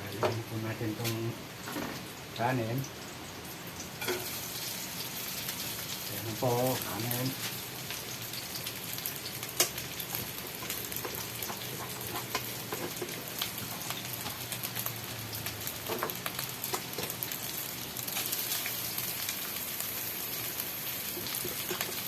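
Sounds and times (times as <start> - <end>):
rice sizzling in a pan: 0.0 - 22.0.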